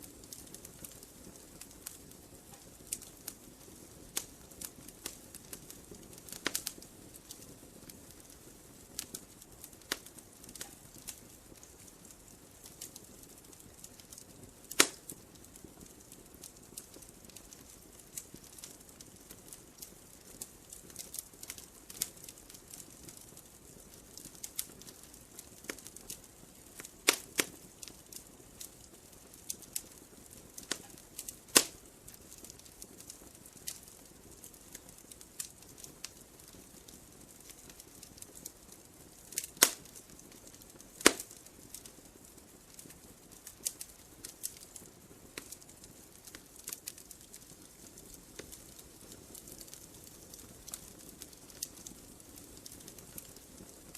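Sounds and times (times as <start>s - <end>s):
faint steady hiss: 0.0s - 53.9s
fire crackling and popping: 0.0s - 53.9s.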